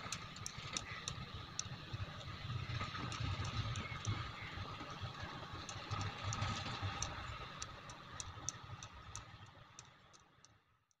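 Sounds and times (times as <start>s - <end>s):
sharp ticks: 0.0s - 10.6s.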